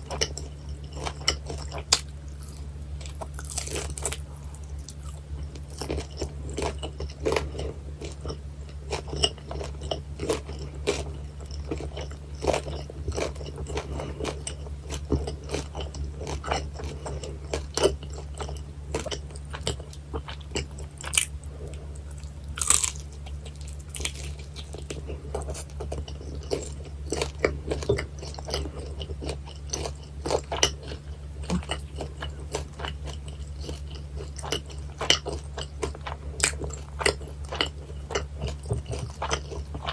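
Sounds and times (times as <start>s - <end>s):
crunching and chewing food: 0.0s - 39.9s
low electrical hum: 0.0s - 39.9s.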